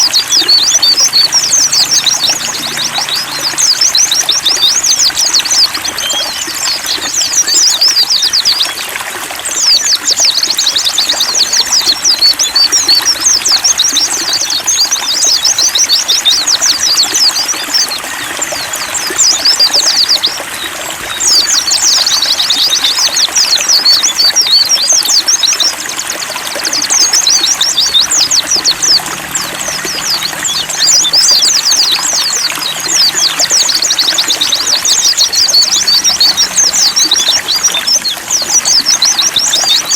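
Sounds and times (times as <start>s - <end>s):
birds twittering: 0.0s - 39.9s
trickle of running water: 0.0s - 39.9s.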